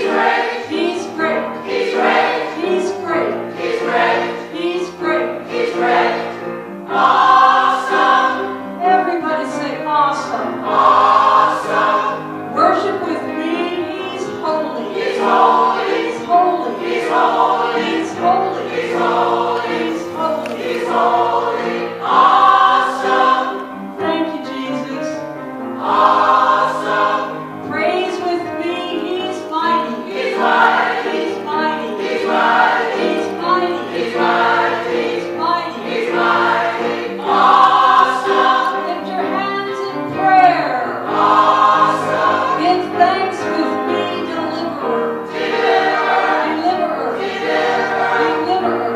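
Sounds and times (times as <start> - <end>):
gospel choir singing: 0.0 - 48.9.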